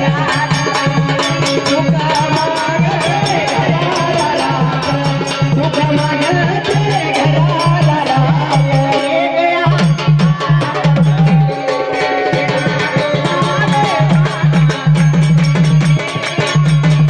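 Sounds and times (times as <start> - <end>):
fast drums: 0.0 - 17.0.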